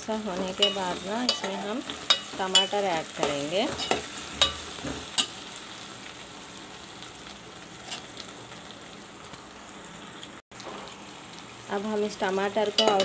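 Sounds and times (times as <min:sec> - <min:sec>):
food sizzling in a metal pot: 0:00.0 - 0:13.0.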